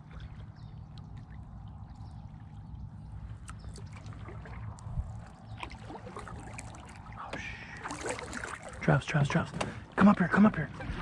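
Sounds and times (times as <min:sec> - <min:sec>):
small splashes: 0:00.0 - 0:09.0
steady low rumble: 0:00.0 - 0:11.0.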